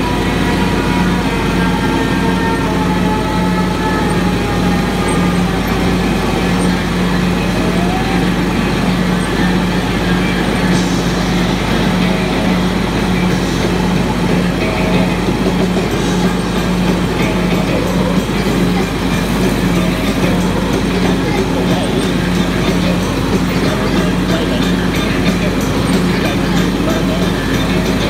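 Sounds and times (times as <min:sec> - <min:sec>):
lawn mower engine drone: 0:00.0 - 0:28.0.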